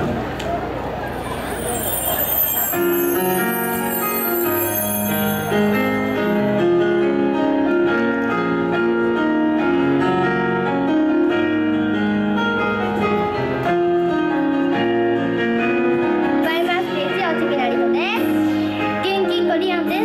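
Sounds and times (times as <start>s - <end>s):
instrumental pop music: 1.2s - 20.0s.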